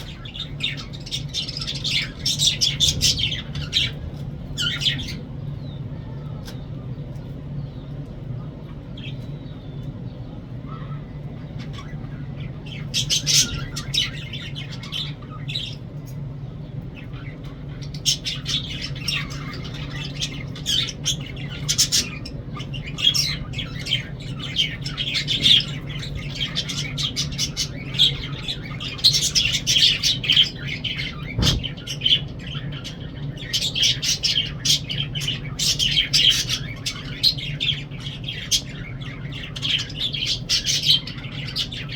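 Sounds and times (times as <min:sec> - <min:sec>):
lovebirds chirping and squawking: 0:00.0 - 0:41.9
steady low hum: 0:00.0 - 0:41.9.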